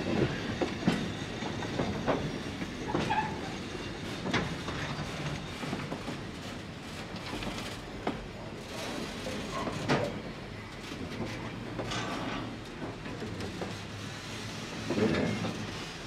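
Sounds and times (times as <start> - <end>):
freight cars rumbling on rails: 0.0 - 16.0
train cars clanking: 0.0 - 16.0.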